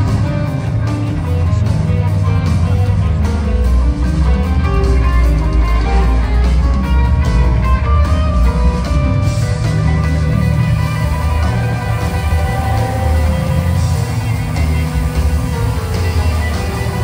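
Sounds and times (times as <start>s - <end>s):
guitar lines: 0.0s - 17.0s
heavy loud bass: 0.0s - 17.0s
live rock band: 0.0s - 17.0s.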